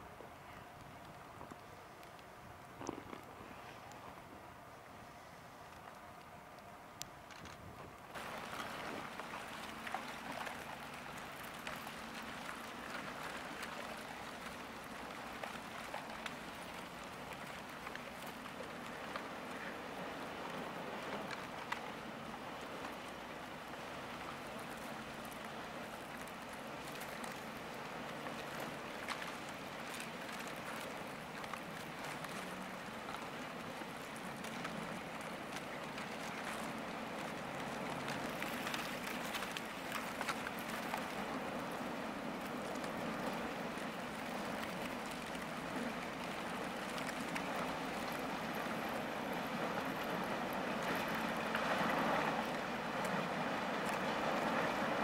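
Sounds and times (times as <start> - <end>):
ship crackling through ice: 0.5 - 4.5, 5.6 - 55.0.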